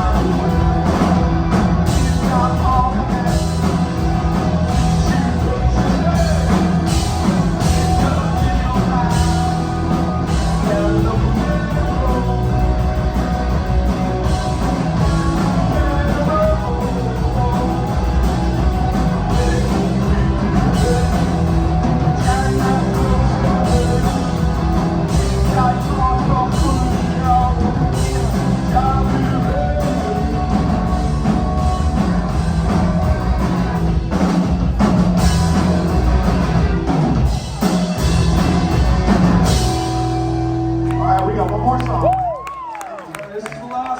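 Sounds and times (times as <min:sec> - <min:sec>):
rock music with singing: 0:00.0 - 0:43.9.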